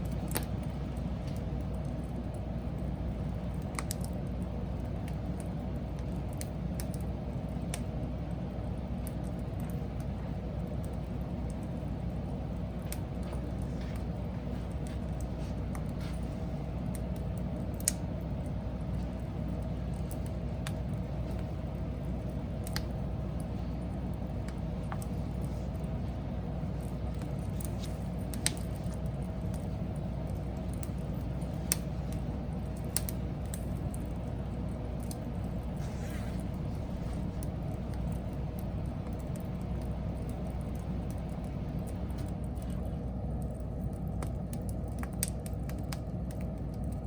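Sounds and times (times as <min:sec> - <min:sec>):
wood crackling and popping: 0:00.0 - 0:47.0
wood fire burning: 0:00.0 - 0:47.0.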